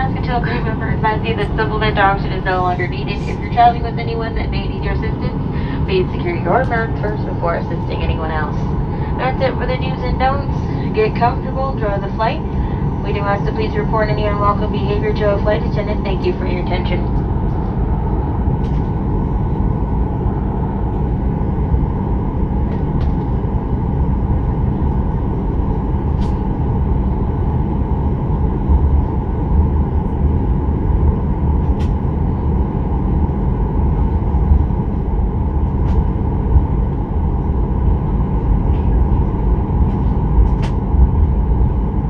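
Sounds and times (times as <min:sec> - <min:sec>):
deep cabin rumble: 0:00.0 - 0:42.0
jet engine idling hum: 0:00.0 - 0:42.0.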